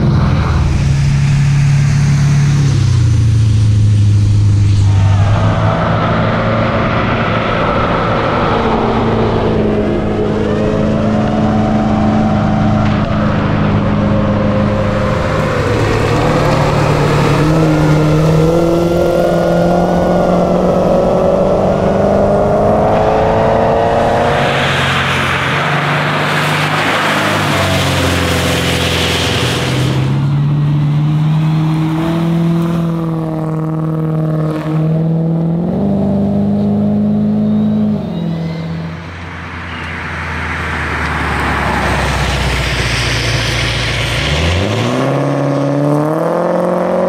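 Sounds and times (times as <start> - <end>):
loud rushing noise: 0.0 - 33.7, 38.4 - 45.2
car engine accelerating hard: 0.0 - 47.0.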